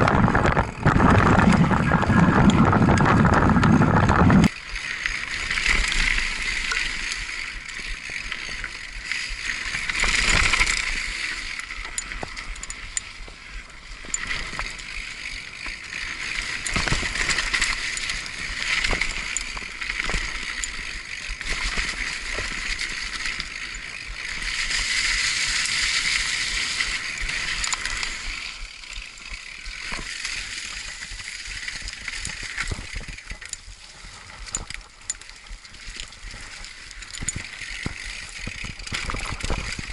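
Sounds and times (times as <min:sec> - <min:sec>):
bike chain and frame rattling: 0:00.0 - 0:39.9
bike tyres rolling on dirt: 0:00.0 - 0:39.9.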